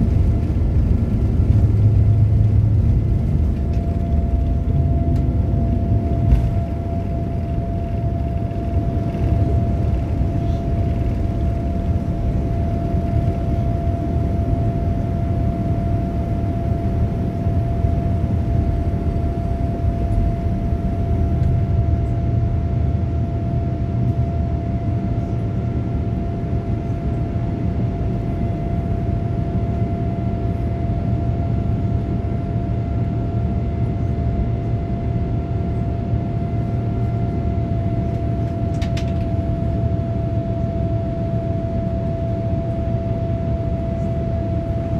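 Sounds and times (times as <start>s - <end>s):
jet engines low rumble: 0.0s - 44.9s
steady high hum: 0.0s - 44.9s.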